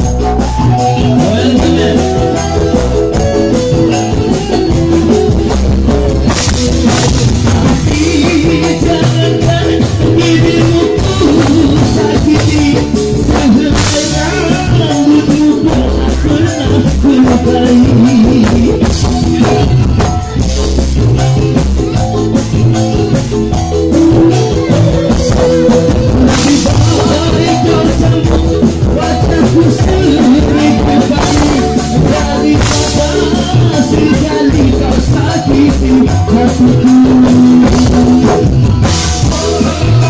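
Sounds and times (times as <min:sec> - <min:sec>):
live band playing amplified music: 0:00.0 - 0:40.0
man singing: 0:00.0 - 0:40.0.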